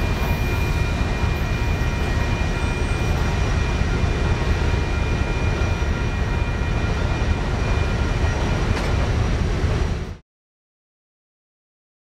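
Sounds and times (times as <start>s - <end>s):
freight train rumble: 0.0s - 10.2s.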